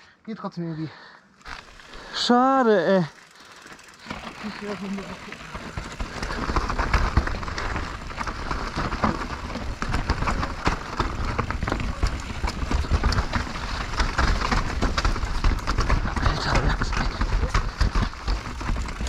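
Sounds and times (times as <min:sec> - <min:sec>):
bike clattering and rattling: 0:01.4 - 0:19.0
tyres crunching over dirt and stones: 0:03.4 - 0:19.0.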